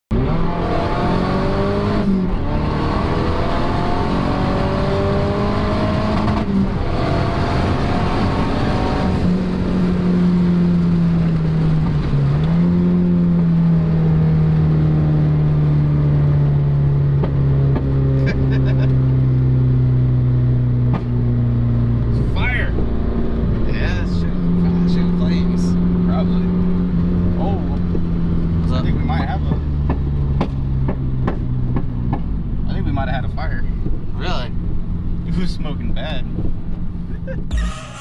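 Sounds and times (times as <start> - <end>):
car engine accelerating: 0.1 - 32.6.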